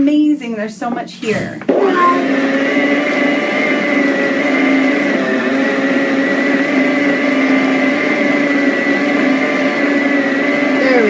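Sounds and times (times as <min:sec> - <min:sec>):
blender motor running: 0:01.7 - 0:11.0.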